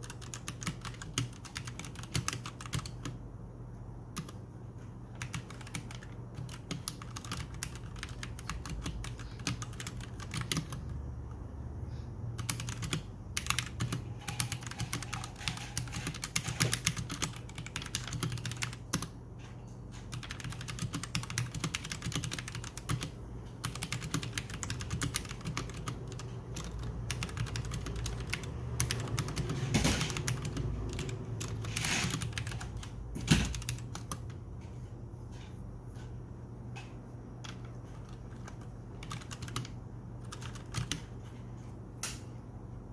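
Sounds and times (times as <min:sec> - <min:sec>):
mechanical keyboard typing: 0:00.0 - 0:03.2, 0:04.1 - 0:04.4, 0:05.1 - 0:11.1, 0:12.4 - 0:34.7, 0:37.4 - 0:41.2
steady low hum: 0:00.0 - 0:42.9.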